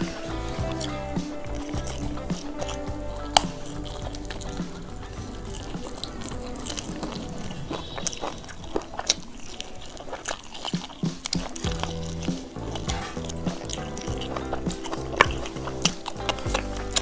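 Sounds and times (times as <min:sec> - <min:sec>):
chewing and lip-smacking: 0:00.0 - 0:17.0
quiet background music: 0:00.0 - 0:17.0
wet mouth clicks: 0:00.0 - 0:17.0.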